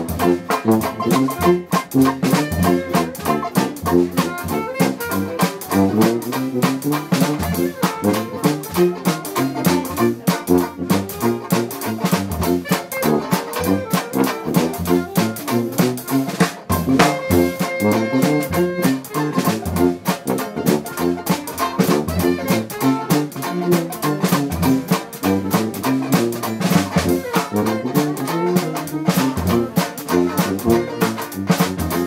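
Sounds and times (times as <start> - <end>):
jazz band playing: 0.0 - 32.0.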